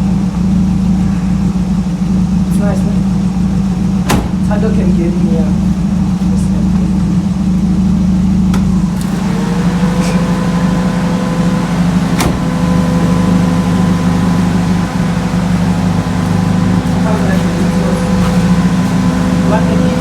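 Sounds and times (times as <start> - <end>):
car engine humming: 0.0 - 20.0.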